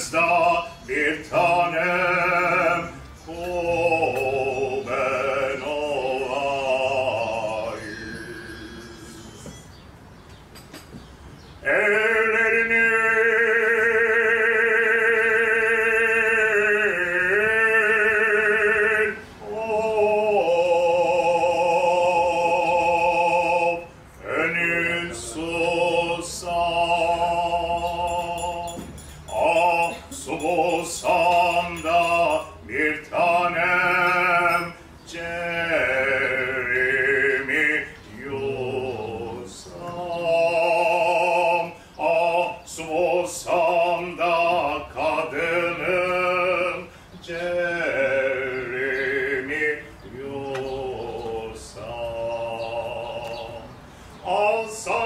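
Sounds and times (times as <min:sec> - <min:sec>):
man singing with vibrato: 0:00.0 - 0:09.8, 0:11.4 - 0:55.0.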